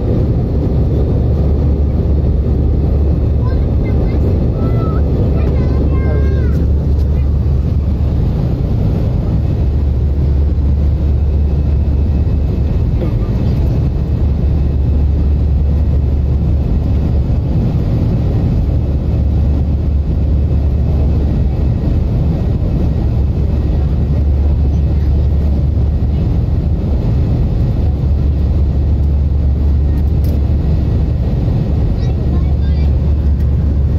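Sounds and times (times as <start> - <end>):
airliner cabin engine drone: 0.0 - 33.9.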